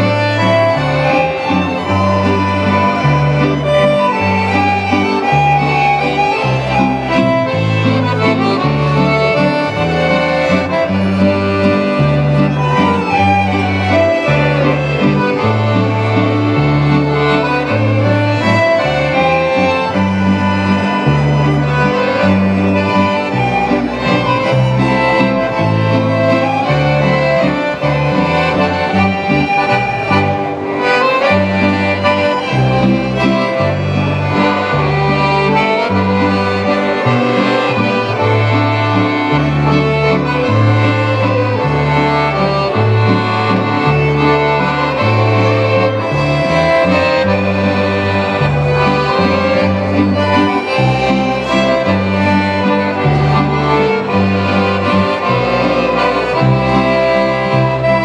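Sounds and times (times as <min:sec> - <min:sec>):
accordion: 0:00.0 - 0:58.0
fiddles playing melody: 0:00.0 - 0:58.0.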